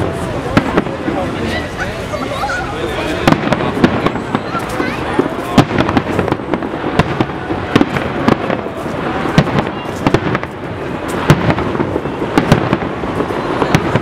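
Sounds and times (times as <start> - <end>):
fireworks bursting with sharp bangs: 0.0 - 14.0
steady background noise: 0.0 - 14.0.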